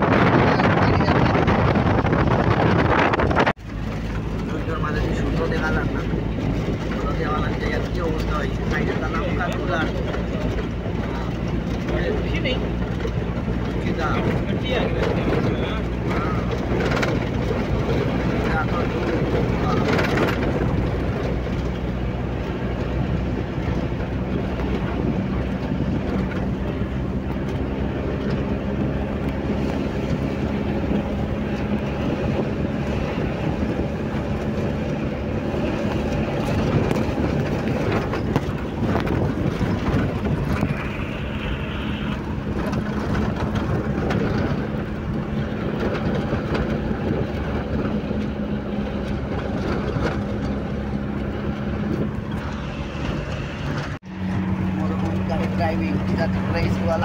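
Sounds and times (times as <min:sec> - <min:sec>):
car engine hum: 0:00.0 - 0:57.0
tyres and wind rushing: 0:00.0 - 0:57.0.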